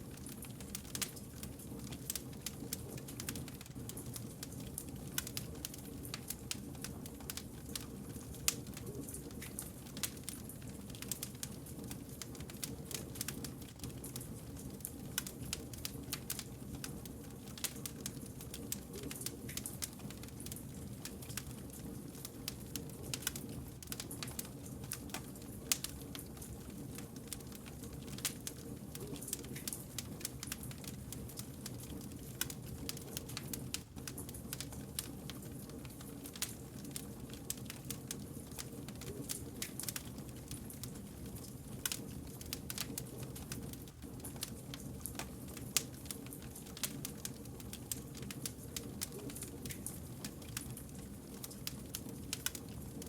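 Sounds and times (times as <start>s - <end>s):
firewood crackling and popping: 0.0s - 53.0s
low fire rumble: 0.0s - 53.0s.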